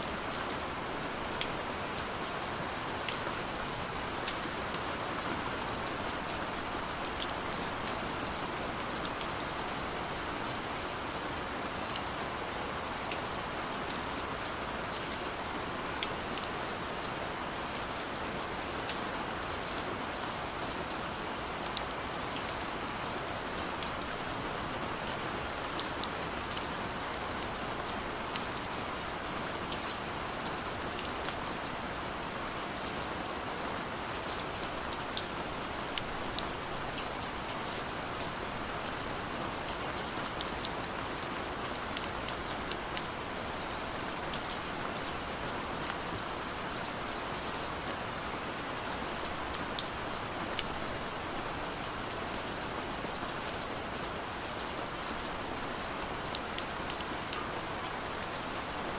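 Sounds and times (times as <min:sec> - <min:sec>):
gentle rain hiss: 0:00.0 - 0:58.9.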